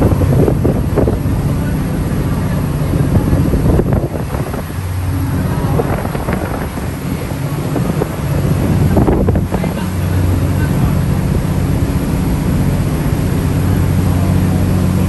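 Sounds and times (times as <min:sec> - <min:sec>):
ferry engine humming: 0:00.0 - 0:15.0
water rushing past hull: 0:00.0 - 0:15.0
wind buffeting microphone: 0:00.0 - 0:15.0.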